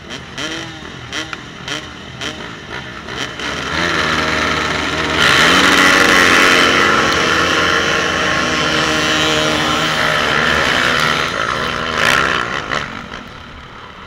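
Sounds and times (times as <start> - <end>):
motocross bikes revving and accelerating: 0.0 - 13.7.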